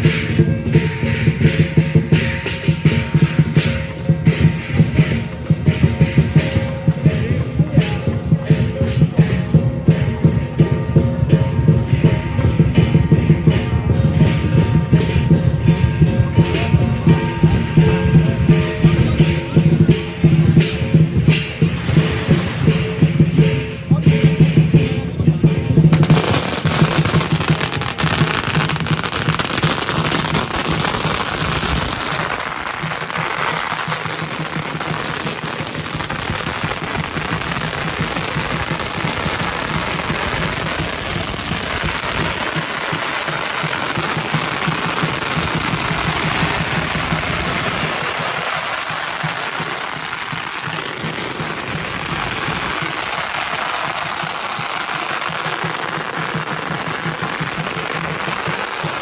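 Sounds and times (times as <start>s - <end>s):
firecrackers crackling: 0.0s - 59.0s.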